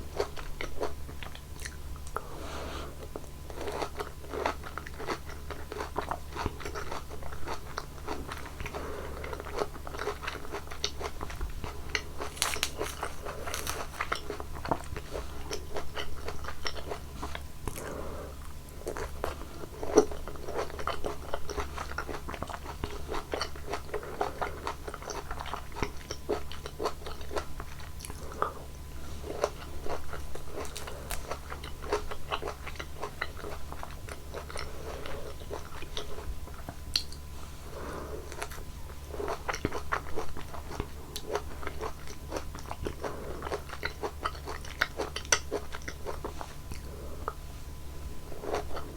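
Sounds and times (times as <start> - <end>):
wet crunchy chewing of fruit: 0.0 - 48.9.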